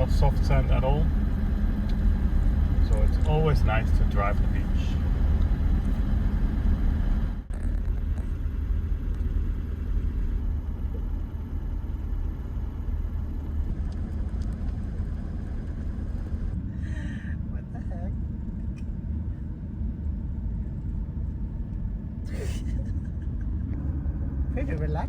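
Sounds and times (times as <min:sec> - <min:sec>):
vehicle driving on sand: 0:00.0 - 0:25.0.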